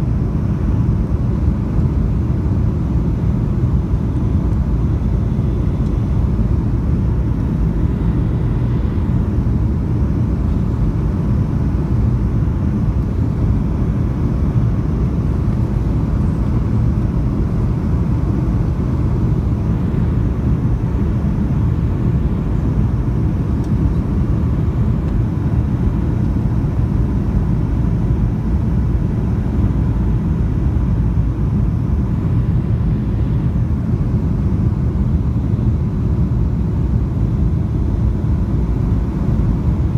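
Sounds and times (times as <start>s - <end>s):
faint steady hum: 0.0s - 39.9s
jet engine and airflow rumble: 0.0s - 39.9s.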